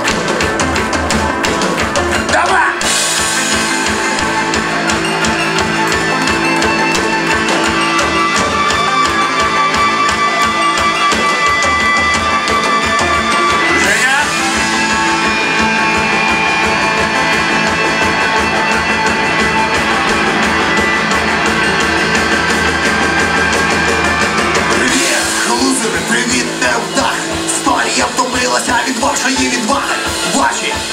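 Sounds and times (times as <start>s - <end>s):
drum kit: 0.0s - 30.9s
electric guitar: 0.0s - 30.9s
rock band playing: 0.0s - 30.9s.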